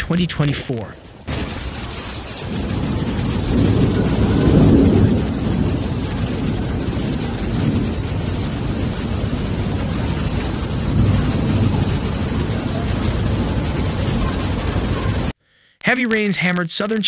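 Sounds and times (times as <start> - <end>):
heavy rain: 0.0 - 15.4
wind gusts rumbling on microphone: 1.0 - 15.3.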